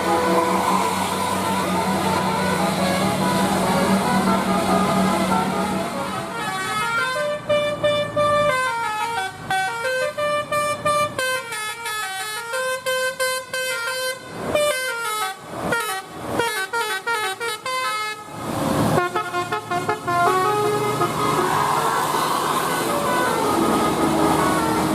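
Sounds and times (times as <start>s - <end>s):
multi-tone bus horn melody: 0.0s - 24.9s.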